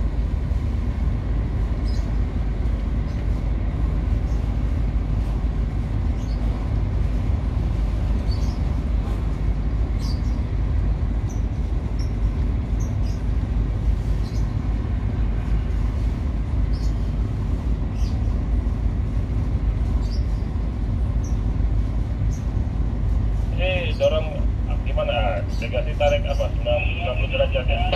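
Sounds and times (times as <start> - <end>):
ship engines rumbling: 0.0 - 27.9.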